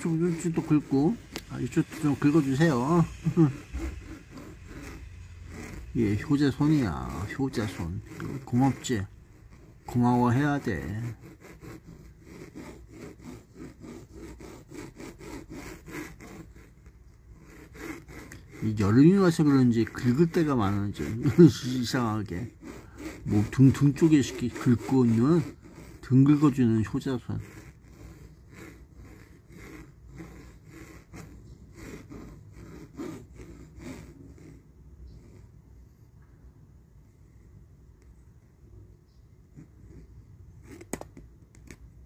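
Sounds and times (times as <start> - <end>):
metal back scratcher rasping: 0.0 - 34.7.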